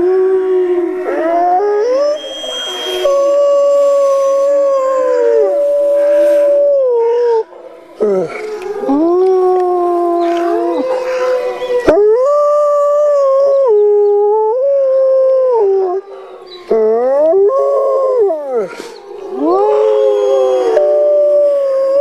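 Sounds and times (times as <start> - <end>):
wolf howling: 0.0 - 22.0.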